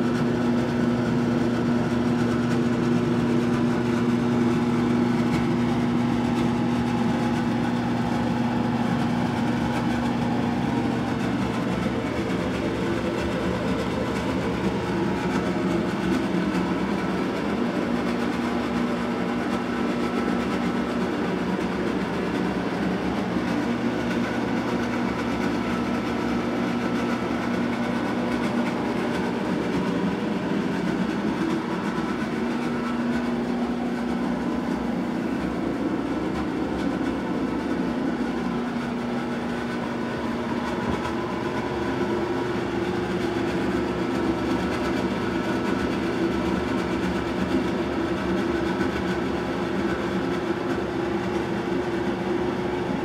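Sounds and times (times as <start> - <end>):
mechanical hum with held tones: 0.0 - 53.0.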